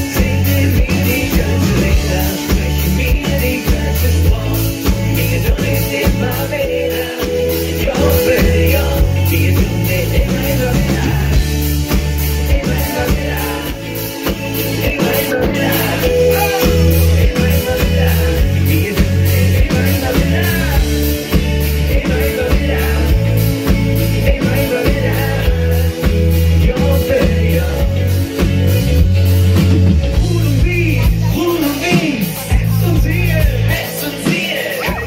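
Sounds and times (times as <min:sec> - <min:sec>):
lead singer singing: 0:00.0 - 0:35.0
live rock band playing: 0:00.0 - 0:35.0.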